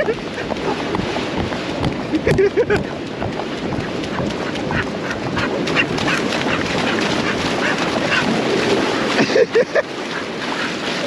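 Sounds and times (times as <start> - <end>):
small waves washing on sand: 0.0 - 11.0.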